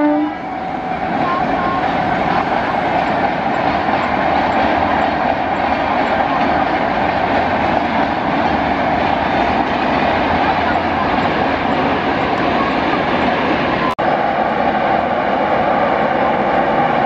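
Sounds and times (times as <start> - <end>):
passenger train running past: 0.0 - 17.0.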